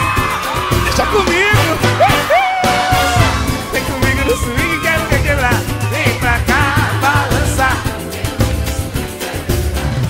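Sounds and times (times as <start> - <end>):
samba band music: 0.0 - 10.0.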